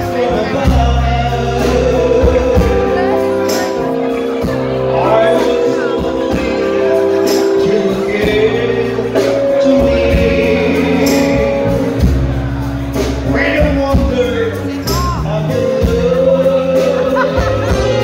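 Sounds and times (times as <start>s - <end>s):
man singing into a microphone: 0.0s - 12.2s, 13.1s - 18.0s
live band playing: 0.0s - 18.0s.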